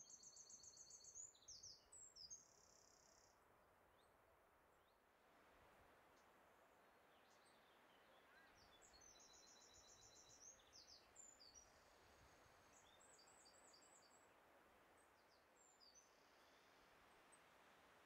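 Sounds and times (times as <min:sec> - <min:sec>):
low hiss: 0:00.0 - 0:18.0.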